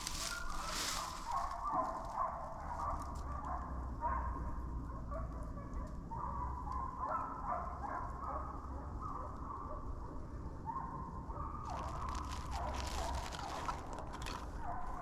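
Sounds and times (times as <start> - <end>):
hounds baying: 0.2 - 9.9, 10.7 - 15.0.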